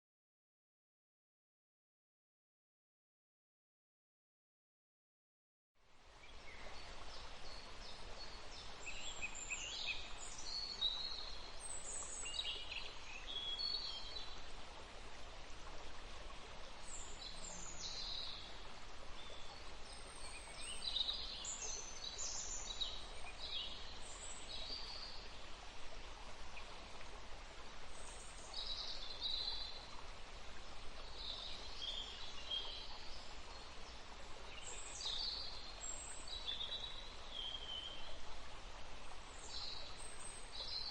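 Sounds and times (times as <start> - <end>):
steady background hiss: 5.8 - 40.9.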